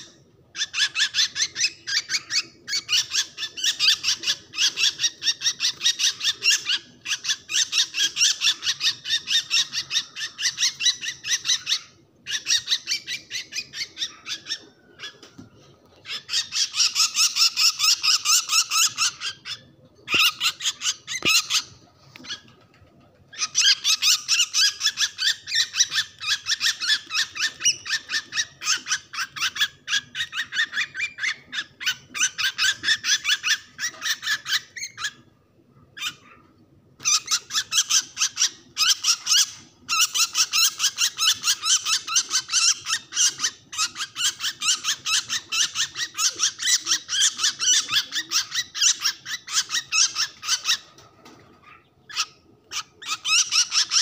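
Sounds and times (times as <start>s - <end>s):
bird distress calls: 0.0s - 54.0s.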